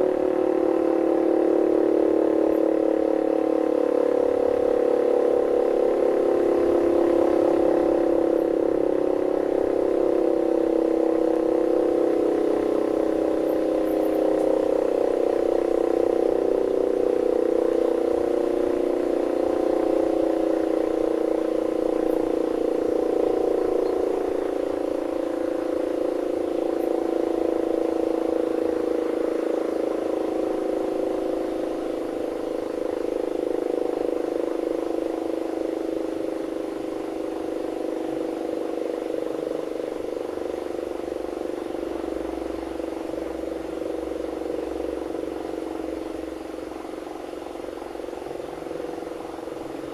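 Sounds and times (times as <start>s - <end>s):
air-raid siren steady tone: 0.0s - 49.9s.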